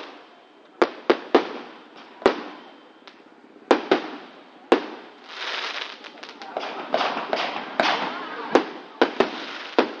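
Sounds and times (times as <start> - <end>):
fireworks bangs with echo: 0.0 - 2.7, 3.7 - 10.0.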